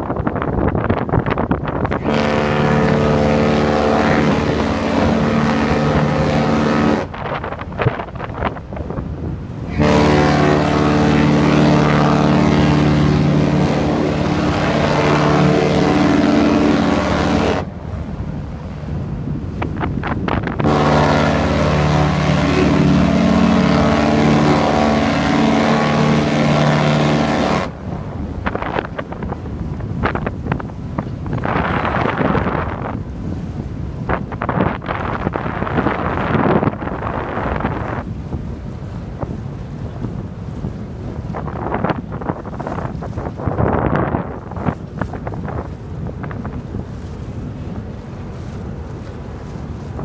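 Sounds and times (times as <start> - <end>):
wind buffeting microphone: 0.0 - 50.0
deep ship horn blast: 1.8 - 50.0.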